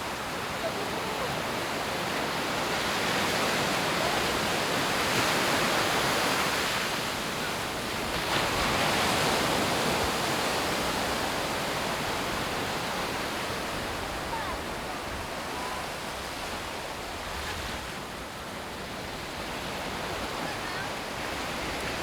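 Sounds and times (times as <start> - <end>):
sea surf washing onto beach: 0.0 - 22.0.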